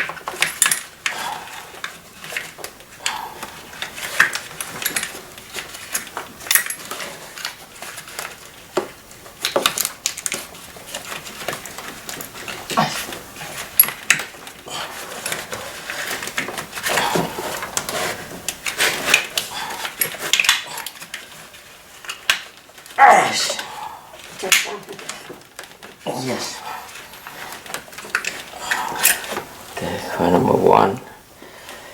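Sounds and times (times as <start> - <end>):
hand tools and metal parts clinking: 0.0 - 30.0.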